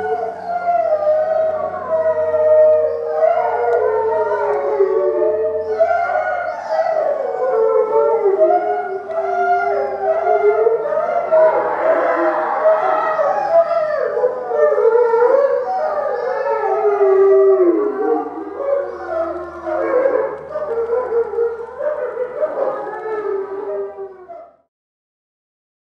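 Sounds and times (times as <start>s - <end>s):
wolves howling in chorus: 0.0s - 24.6s.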